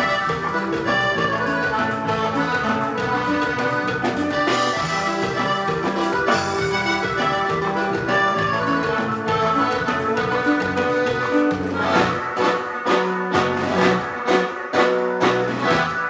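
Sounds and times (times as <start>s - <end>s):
accordion melody: 0.0s - 16.0s
bass guitar strumming: 0.0s - 16.0s
drum kit: 0.0s - 16.0s.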